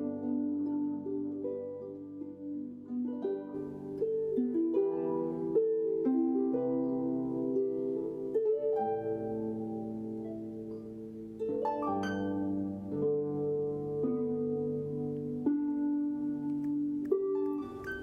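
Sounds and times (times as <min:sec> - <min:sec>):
harps playing a gentle melody: 0:00.0 - 0:18.0.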